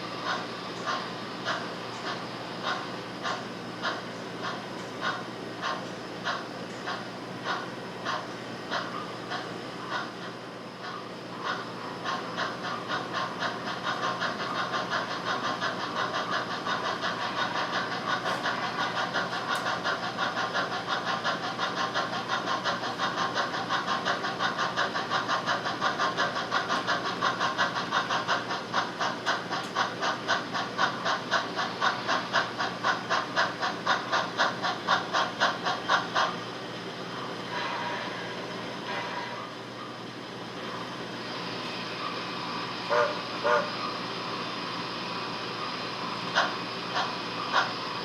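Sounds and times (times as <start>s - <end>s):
model steam locomotive chuffing: 0.0s - 48.0s
steam hiss: 0.0s - 48.0s.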